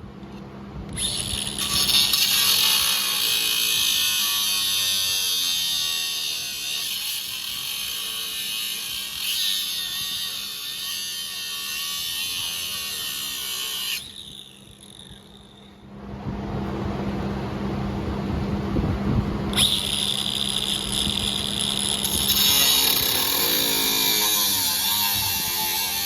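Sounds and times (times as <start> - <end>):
angle grinder cutting metal: 1.0 - 15.8, 19.5 - 26.0.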